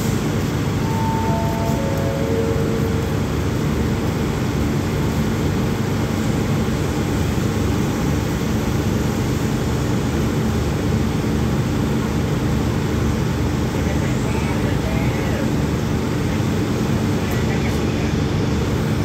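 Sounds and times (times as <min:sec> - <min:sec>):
diesel train engines idling: 0:00.0 - 0:19.0.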